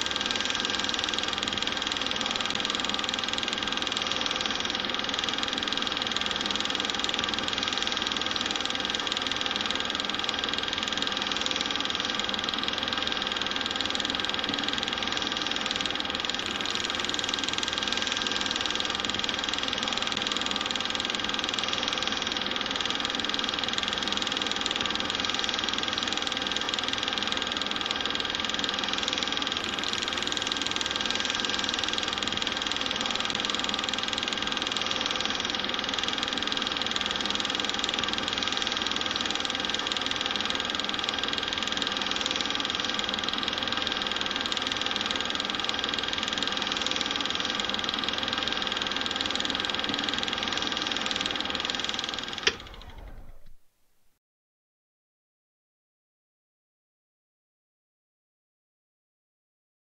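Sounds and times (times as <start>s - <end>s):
small motor running with whine: 0.0s - 53.6s.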